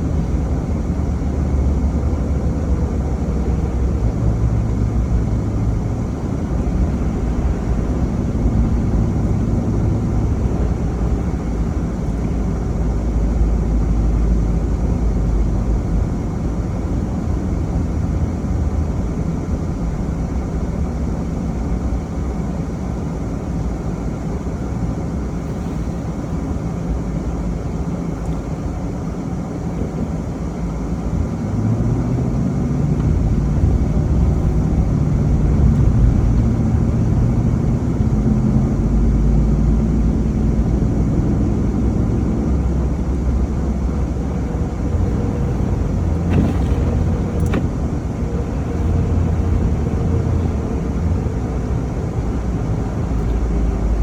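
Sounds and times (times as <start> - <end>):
car engine hum: 0.0 - 54.0
road noise: 0.0 - 54.0.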